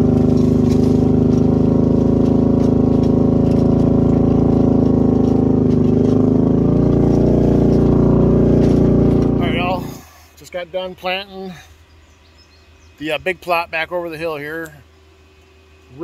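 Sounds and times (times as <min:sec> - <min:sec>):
engine running under load: 0:00.0 - 0:16.0.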